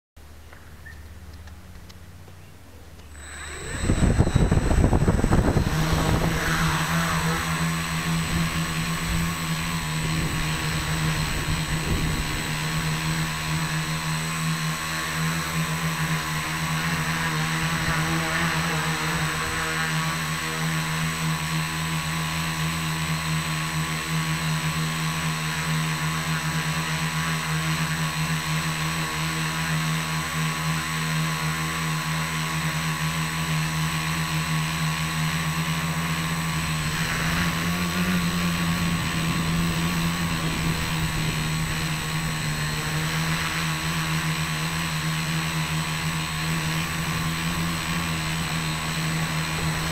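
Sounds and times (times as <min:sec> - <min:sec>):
drone propellers whirring: 0:00.2 - 0:49.9.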